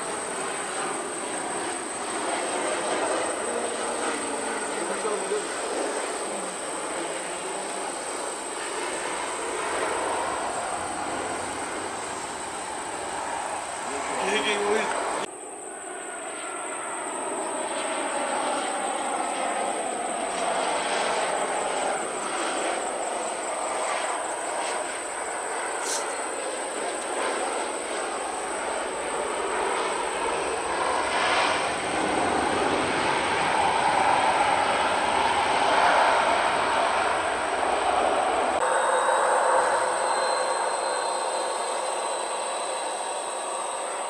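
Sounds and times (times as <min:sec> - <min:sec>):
jet airliner engines rushing: 0:00.0 - 0:44.0.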